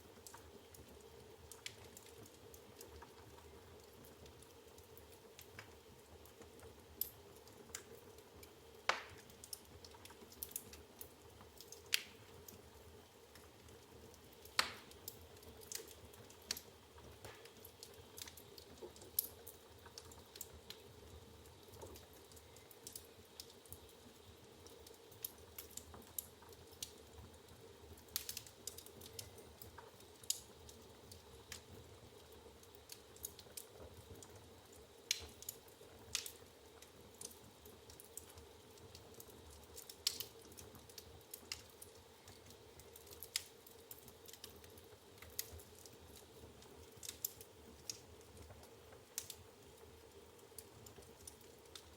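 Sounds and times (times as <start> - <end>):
faint steady hum: 0.0 - 51.9
wood fire crackling: 0.0 - 51.9.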